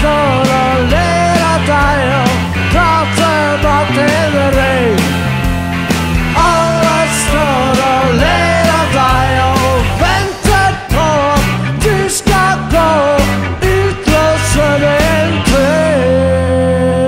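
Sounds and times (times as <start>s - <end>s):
person singing: 0.0s - 5.2s, 6.3s - 17.0s
bass guitar: 0.0s - 17.0s
drums: 0.0s - 17.0s
electric guitar: 0.0s - 17.0s.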